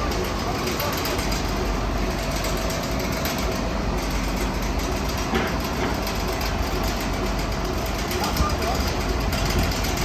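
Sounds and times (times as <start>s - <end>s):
drilling rig engine rumbling: 0.0s - 10.0s.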